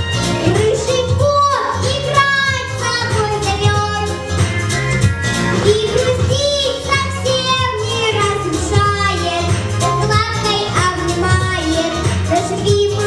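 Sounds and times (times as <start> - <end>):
backing track music: 0.0 - 13.0
girl singing: 0.4 - 4.2, 5.6 - 13.0.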